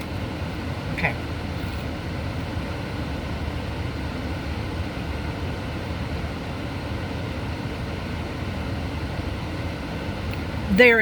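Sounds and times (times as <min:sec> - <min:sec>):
machinery droning: 0:00.0 - 0:11.0.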